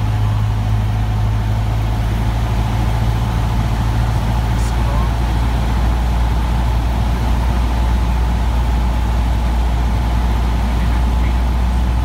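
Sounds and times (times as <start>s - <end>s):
light aircraft engine drone: 0.0s - 12.0s.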